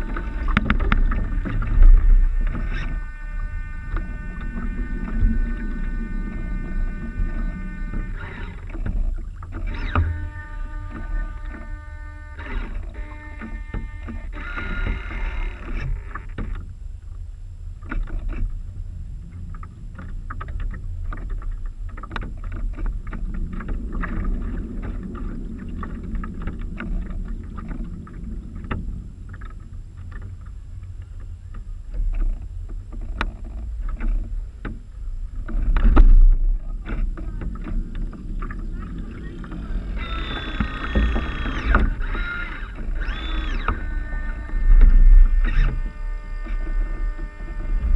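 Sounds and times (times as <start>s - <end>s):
water splashing against hulls: 0.0s - 47.9s
wind rumble on microphone: 0.0s - 47.9s.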